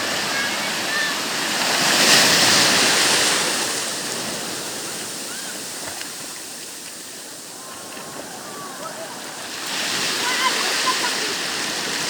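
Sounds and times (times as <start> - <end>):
sea wave washing on shore: 0.0 - 12.0.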